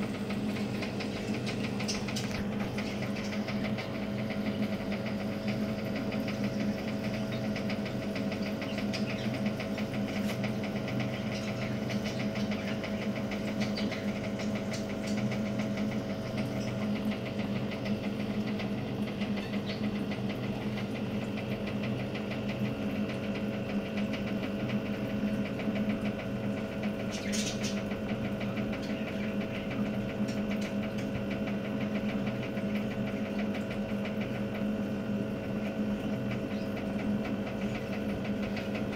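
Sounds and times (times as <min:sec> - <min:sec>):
small machine buzzing hum: 0:00.0 - 0:38.9.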